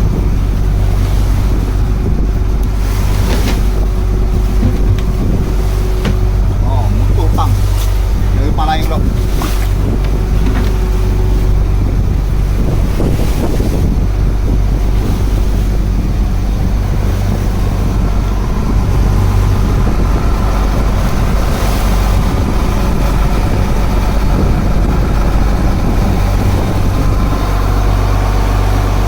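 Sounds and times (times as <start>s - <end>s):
boat engine humming: 0.0s - 29.0s
wind noise on microphone: 0.0s - 29.0s.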